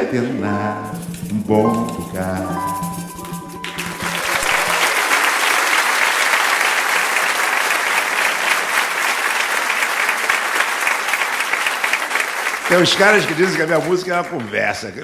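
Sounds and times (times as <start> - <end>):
audience applauding: 0.8 - 15.0.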